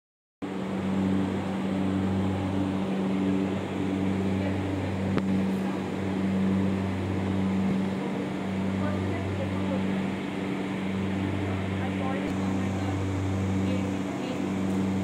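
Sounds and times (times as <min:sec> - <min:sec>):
steady low hum: 0:00.4 - 0:15.0.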